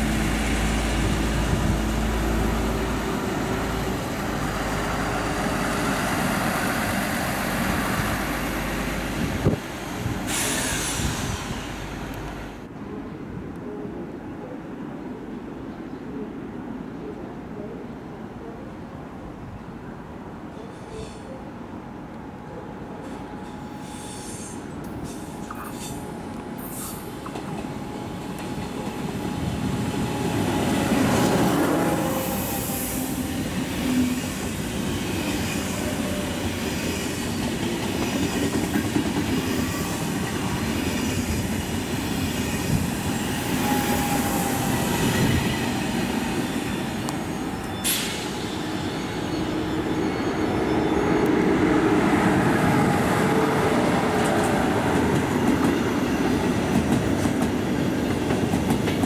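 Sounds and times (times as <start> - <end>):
train wheels rushing on rails: 0.0 - 12.7, 23.0 - 59.0.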